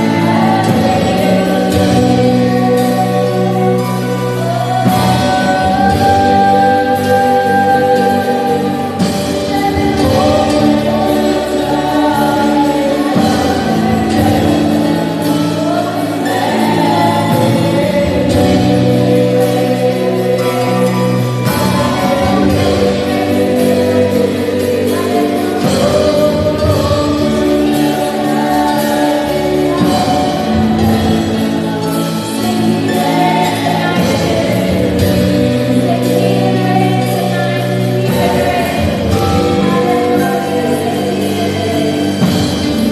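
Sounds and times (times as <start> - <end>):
band playing held chords: 0.0 - 42.9
voices singing: 0.0 - 42.9.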